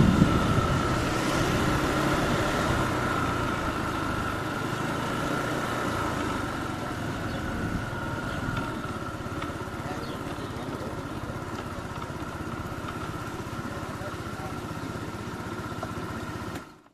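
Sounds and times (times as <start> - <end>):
motor scooter engine running: 0.0 - 16.9.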